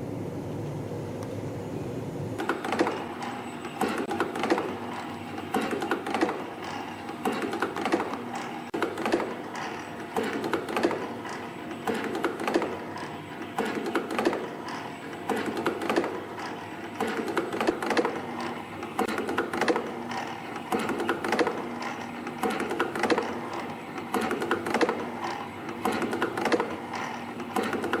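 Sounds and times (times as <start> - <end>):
faint machine hum: 0.0 - 28.0
spring coiling machine clattering: 2.4 - 28.0.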